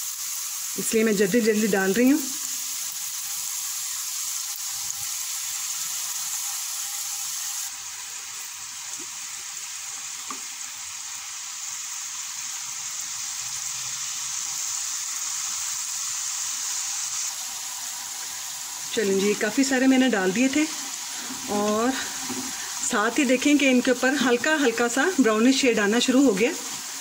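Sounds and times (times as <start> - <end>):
dough deep-frying in hot oil: 0.0 - 27.0.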